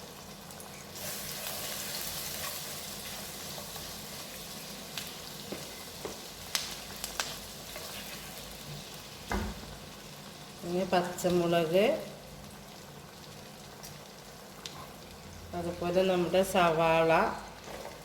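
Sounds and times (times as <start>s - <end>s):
garlic sizzling in a pan: 0.0s - 18.0s.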